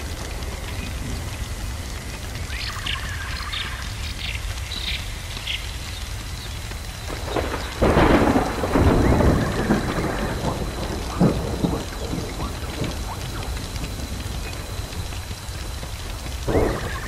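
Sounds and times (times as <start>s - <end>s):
thunder rolling: 0.0s - 4.5s, 7.0s - 17.0s
steady hiss: 0.0s - 17.0s
thunder crackles: 0.0s - 17.0s.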